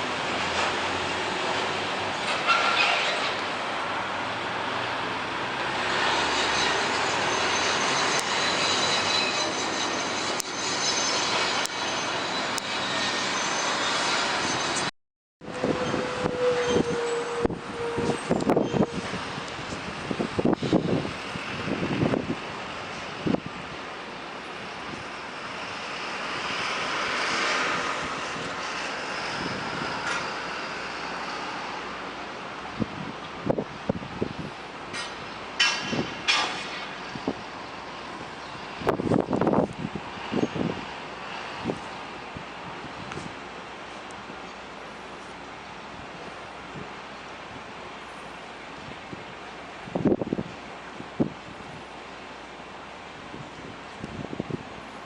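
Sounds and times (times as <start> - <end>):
trucks passing: 0.0 - 55.0.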